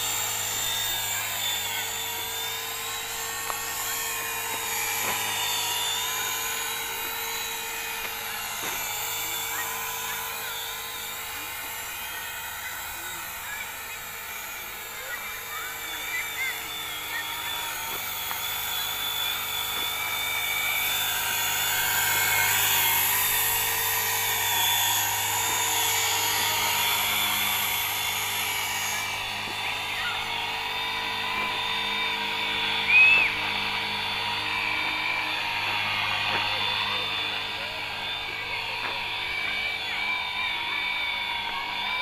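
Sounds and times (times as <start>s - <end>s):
high electric motor whine: 0.0s - 42.0s
rotors whirring: 0.0s - 42.0s.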